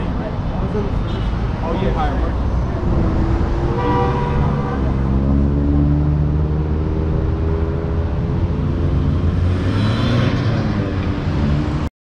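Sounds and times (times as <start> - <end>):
high-pitched road noise: 0.0 - 11.9
highway traffic rumble: 0.0 - 11.9.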